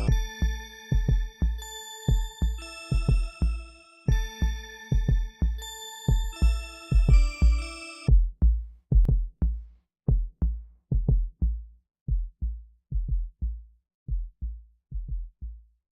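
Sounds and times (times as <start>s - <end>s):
drum machine kick drums: 0.0s - 15.5s.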